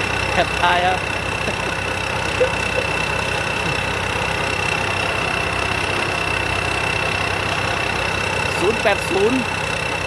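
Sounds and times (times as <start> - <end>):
constant high whine: 0.0 - 10.0
diesel engine idling: 0.0 - 10.0.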